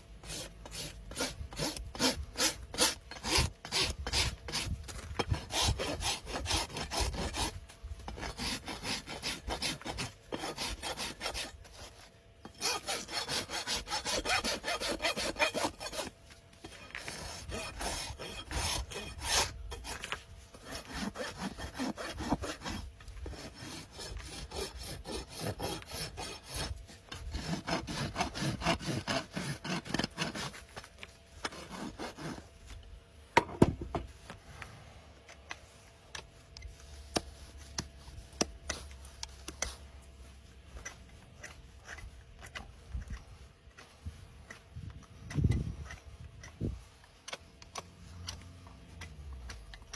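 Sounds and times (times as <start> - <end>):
rasp filing hoof: 0.2 - 32.8, 35.5 - 49.9.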